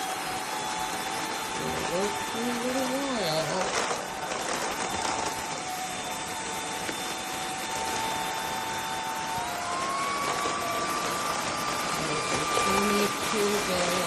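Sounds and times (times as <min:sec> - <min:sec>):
cordless vacuum motor whine: 0:00.0 - 0:14.0.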